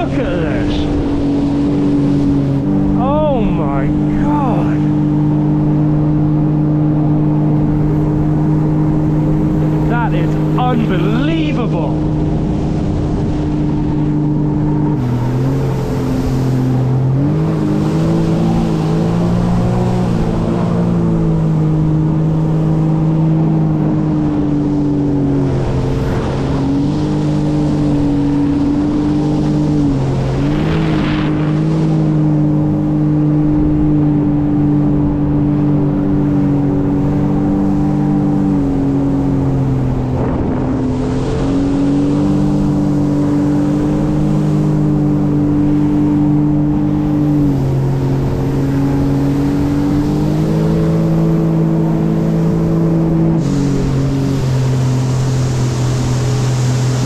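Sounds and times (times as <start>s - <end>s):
watercraft engine running: 0.0s - 57.0s.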